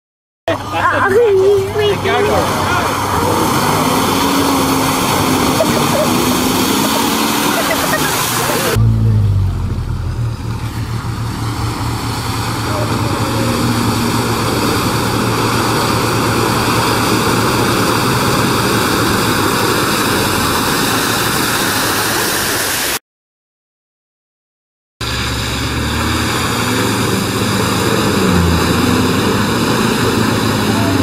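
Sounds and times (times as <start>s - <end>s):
off-road engines revving: 0.5s - 22.3s, 25.0s - 31.0s
mud and water splashing: 0.5s - 23.0s, 25.0s - 31.0s.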